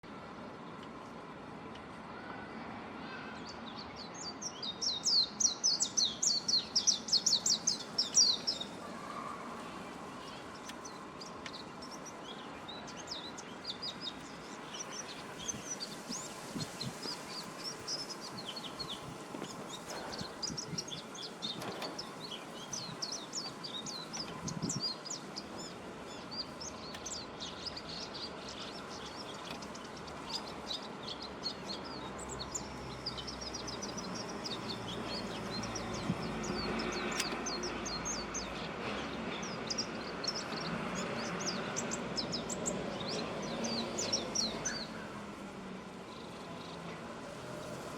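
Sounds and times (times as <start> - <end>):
bird twittering and chirping: 4.2 - 9.1, 10.2 - 45.2.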